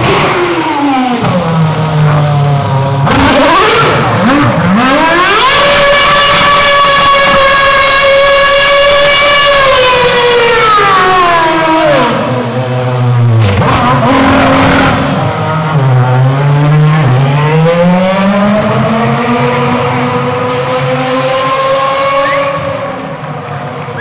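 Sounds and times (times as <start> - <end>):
racing car engine revving: 0.0 - 24.0.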